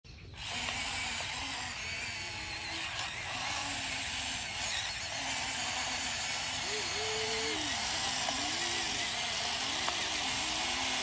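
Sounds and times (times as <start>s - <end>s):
toy electric motors whirring: 0.3s - 11.0s.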